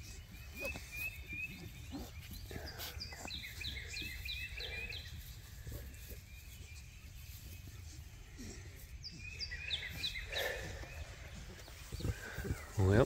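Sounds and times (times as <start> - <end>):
songbird chirping and whistling: 0.0 - 13.0.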